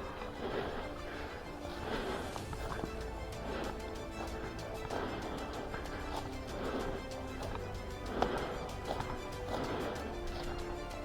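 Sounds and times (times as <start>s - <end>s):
music with held notes: 0.0s - 11.0s
quick ticking rhythm: 0.0s - 11.0s.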